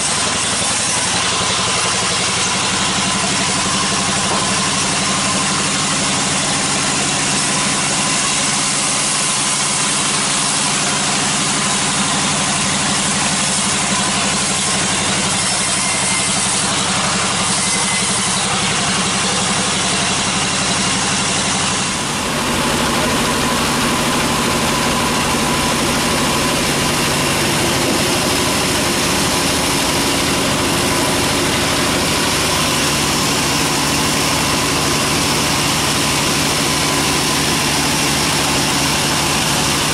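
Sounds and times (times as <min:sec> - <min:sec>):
band saw humming: 0:00.0 - 0:39.9.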